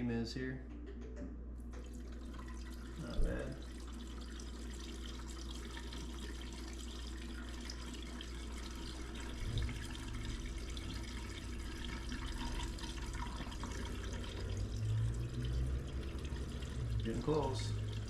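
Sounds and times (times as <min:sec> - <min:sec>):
liquid pouring into reservoir: 0:01.7 - 0:18.0.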